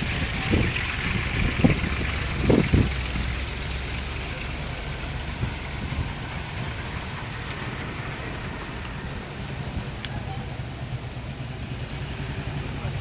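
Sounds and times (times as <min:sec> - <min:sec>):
car engine rumbling on cobbles: 0:00.0 - 0:13.0
old motorcycle engine: 0:00.0 - 0:13.0.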